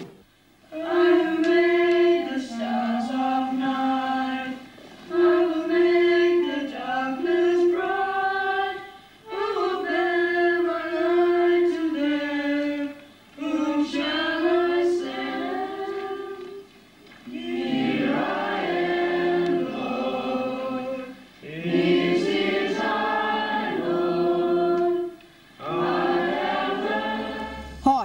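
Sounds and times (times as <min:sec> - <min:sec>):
boys singing a hymn: 0:00.7 - 0:28.0.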